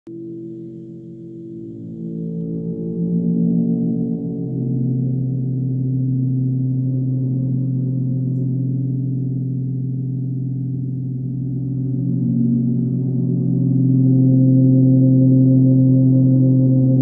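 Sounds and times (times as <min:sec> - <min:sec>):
gong drone: 0:00.1 - 0:17.0.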